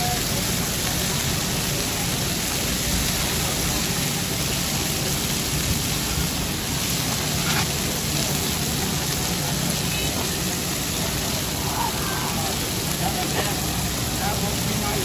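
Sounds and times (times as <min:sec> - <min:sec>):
meat sizzling on a griddle: 0:00.0 - 0:15.0.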